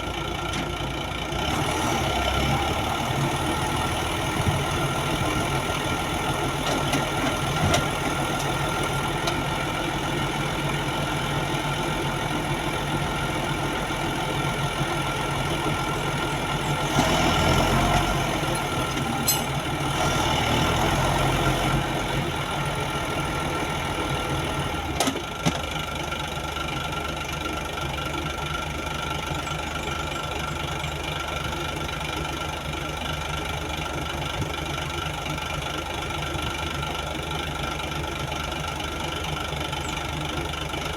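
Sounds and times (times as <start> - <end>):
crane diesel engine running: 0.0 - 40.9.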